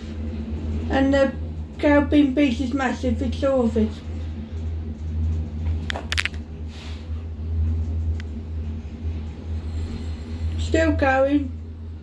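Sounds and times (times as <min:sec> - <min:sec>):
gondola cabin rumble: 0:00.0 - 0:12.0.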